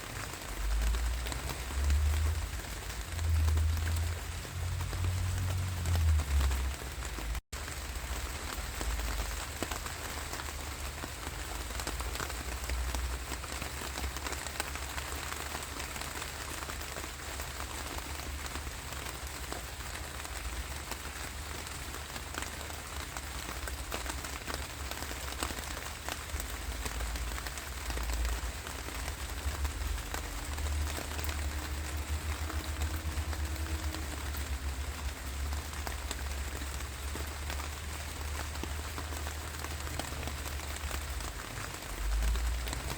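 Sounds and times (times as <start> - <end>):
raindrops ticking on a surface: 0.0 - 42.9
steady rainfall: 0.0 - 42.9.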